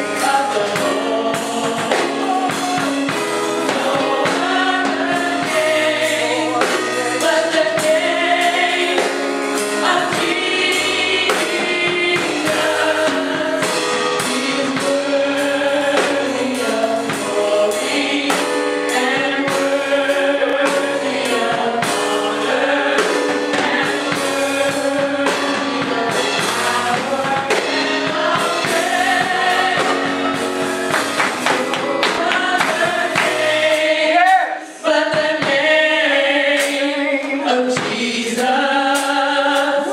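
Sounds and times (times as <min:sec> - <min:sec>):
steady percussive beat: 0:00.0 - 0:37.0
band accompaniment: 0:00.0 - 0:39.9
gospel choir singing: 0:00.0 - 0:39.9.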